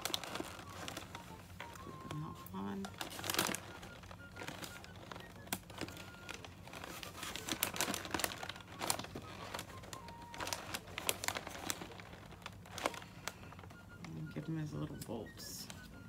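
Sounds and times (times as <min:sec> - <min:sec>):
paper bag crinkling: 0:00.0 - 0:14.4.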